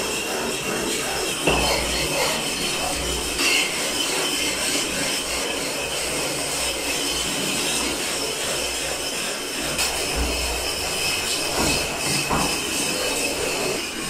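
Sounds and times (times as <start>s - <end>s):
block scraping plastered wall: 0.0s - 14.0s.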